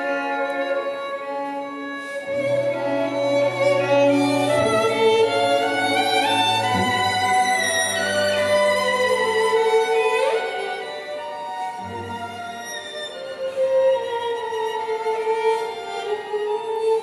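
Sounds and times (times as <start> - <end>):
low cello line: 0.0 - 17.0
violin melody: 0.0 - 17.0.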